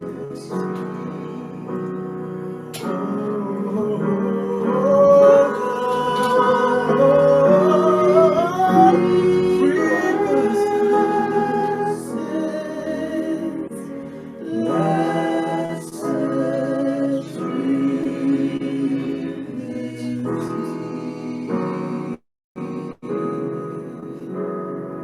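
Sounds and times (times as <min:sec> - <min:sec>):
sustained instrumental accompaniment: 0:00.0 - 0:24.5
person singing: 0:00.0 - 0:24.6.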